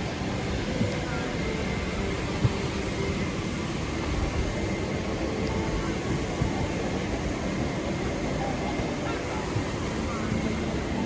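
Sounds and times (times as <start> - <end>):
faint indistinct voices: 0.0 - 11.0
low rumble of aircraft cabin: 0.0 - 11.0.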